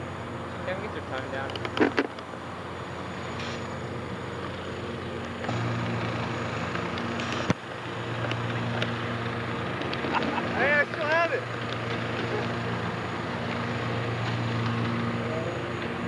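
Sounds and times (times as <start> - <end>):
outdoor background noise: 0.0 - 16.0
steady low hum: 0.0 - 16.0.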